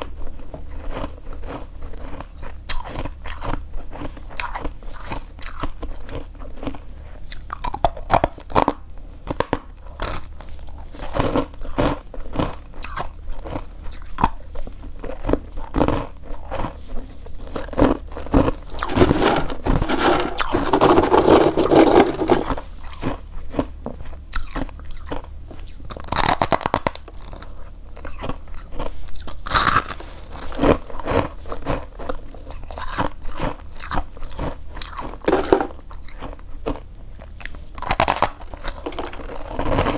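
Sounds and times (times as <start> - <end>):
frost crunching as chewed: 0.0 - 39.9.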